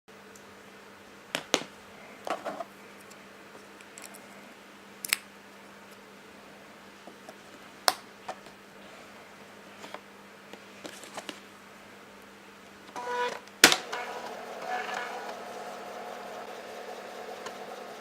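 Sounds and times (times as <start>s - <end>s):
faint steady hum: 0.1s - 18.0s.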